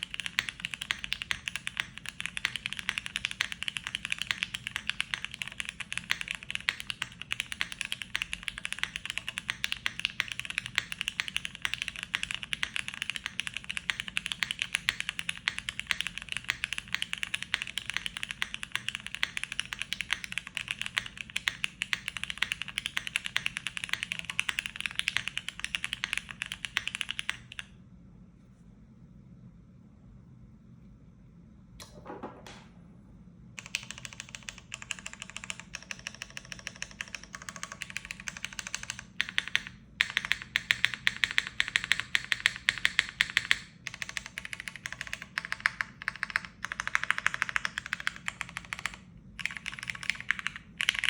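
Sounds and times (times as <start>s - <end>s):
mechanical keyboard typing: 0.0s - 27.7s, 33.6s - 51.0s.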